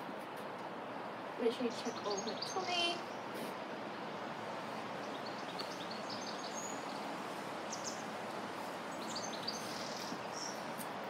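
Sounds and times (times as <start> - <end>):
outdoor ambience hiss: 0.0 - 11.0
small birds chirping: 1.4 - 11.0.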